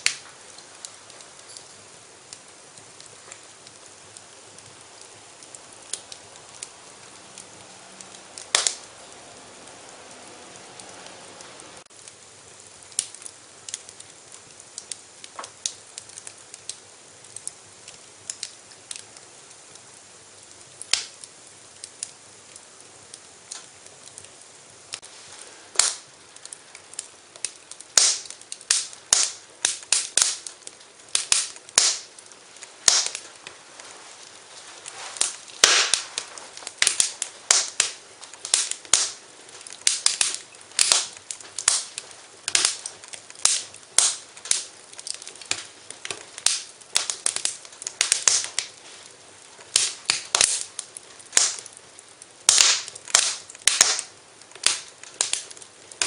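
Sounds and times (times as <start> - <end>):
faint hiss: 0.0 - 56.0
wood fire crackling: 0.0 - 56.0.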